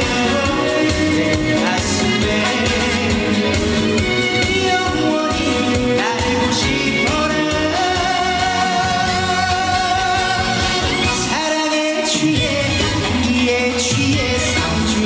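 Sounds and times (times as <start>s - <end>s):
man singing: 0.0s - 15.0s
pop band accompaniment: 0.0s - 15.0s.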